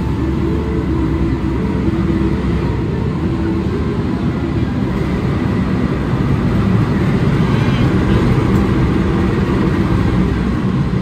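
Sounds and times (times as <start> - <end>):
locomotive rumbling: 0.0 - 11.0.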